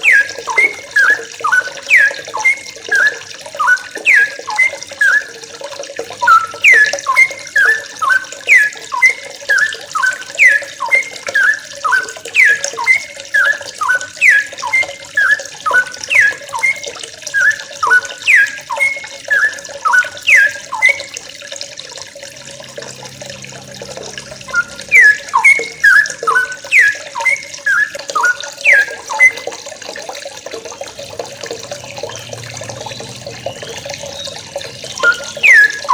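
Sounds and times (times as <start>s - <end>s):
birds calling falling notes: 0.0s - 21.2s, 22.3s - 29.6s, 30.6s - 35.9s.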